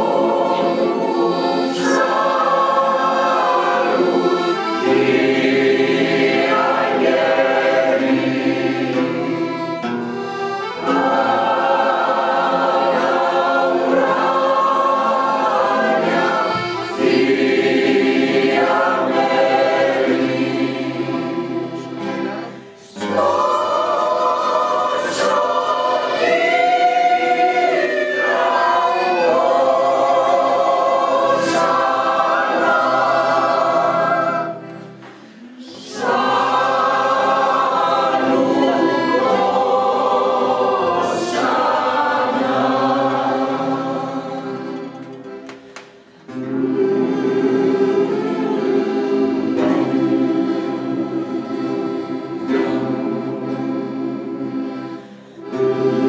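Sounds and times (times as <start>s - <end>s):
mixed choir singing: 0.0s - 45.4s, 46.0s - 56.0s.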